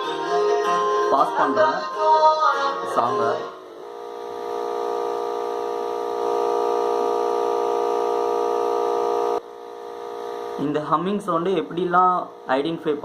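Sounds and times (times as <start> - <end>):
amplifier buzzing hum: 0.0 - 13.0.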